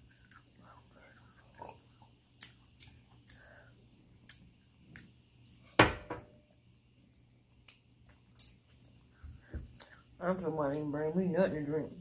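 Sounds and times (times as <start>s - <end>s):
wet eating clicks and smacks: 0.0s - 5.6s, 7.0s - 12.0s.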